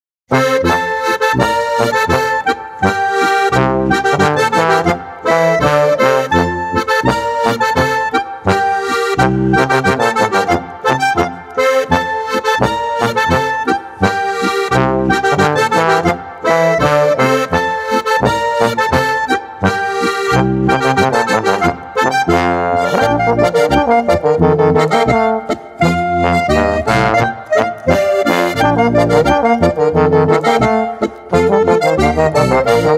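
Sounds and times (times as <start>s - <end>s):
accordion playing folk dance tune: 0.3s - 32.9s.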